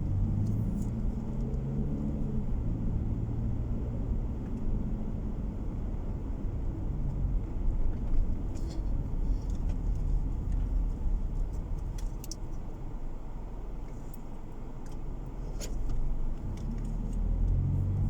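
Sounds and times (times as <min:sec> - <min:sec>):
car road noise inside cabin: 0:00.0 - 0:18.0.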